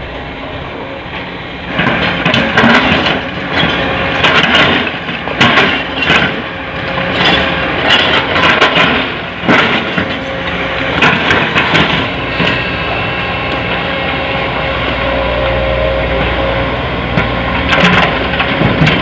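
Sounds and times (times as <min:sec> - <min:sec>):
diesel machinery running: 0:00.0 - 0:19.0.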